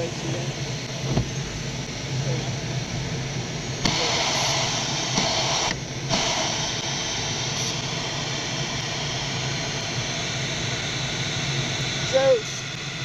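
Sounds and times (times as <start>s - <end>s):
rush of air around glider cockpit: 0.0s - 13.0s.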